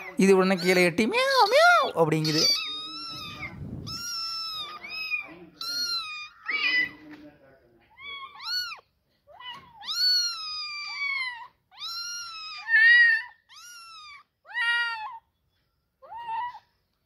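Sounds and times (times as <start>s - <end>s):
kittens meowing: 0.0s - 7.1s, 7.9s - 15.3s, 16.0s - 16.8s.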